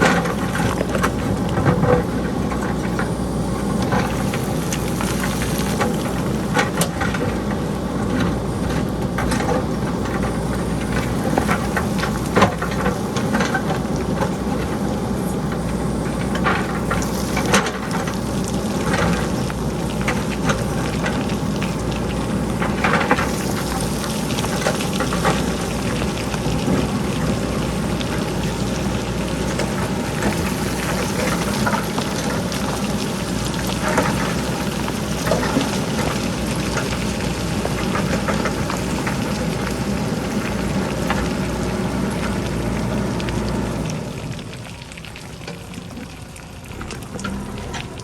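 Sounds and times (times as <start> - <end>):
rocks clattering down hillside: 0.0 - 44.6
diesel engine running: 0.0 - 48.0.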